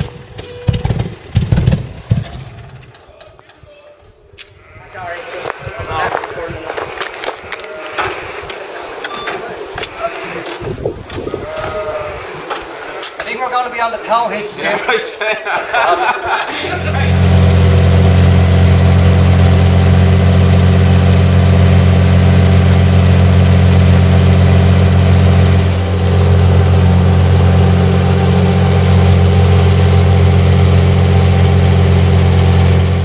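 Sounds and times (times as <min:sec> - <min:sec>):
tank engine droning: 0:00.0 - 0:03.3, 0:04.5 - 0:33.0.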